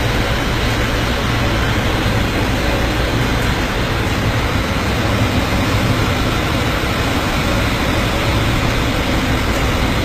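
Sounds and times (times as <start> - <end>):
storm wind: 0.0 - 10.0.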